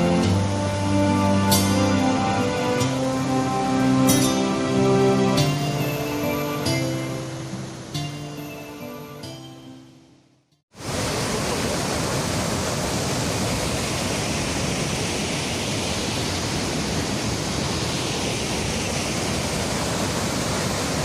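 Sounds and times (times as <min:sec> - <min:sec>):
waterfall rushing: 0:00.0 - 0:09.8, 0:10.8 - 0:21.0.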